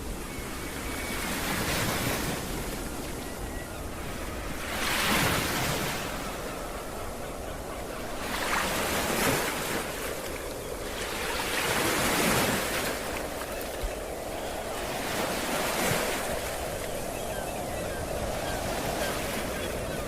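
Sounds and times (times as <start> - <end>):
waves breaking on a beach: 0.0 - 20.0.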